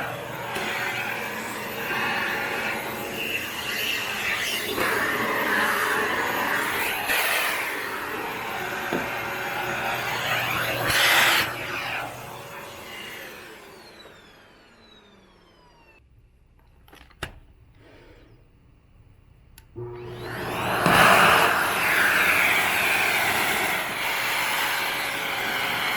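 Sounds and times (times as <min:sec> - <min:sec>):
motor winding down whine: 0:00.0 - 0:16.0, 0:19.8 - 0:25.9
vacuum cleaner running: 0:00.0 - 0:16.0, 0:19.8 - 0:25.9.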